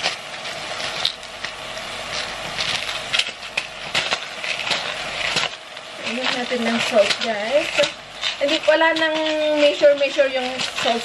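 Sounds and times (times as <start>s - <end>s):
crackles and pops of frying: 0.0s - 11.0s
meat and onions sizzling: 0.0s - 11.0s.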